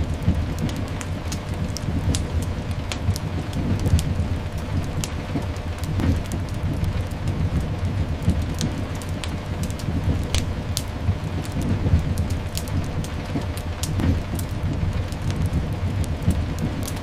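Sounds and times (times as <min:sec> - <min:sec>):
continuous low rumble: 0:00.0 - 0:17.0
steady rain: 0:00.0 - 0:17.0
wood fire crackling: 0:00.0 - 0:17.0.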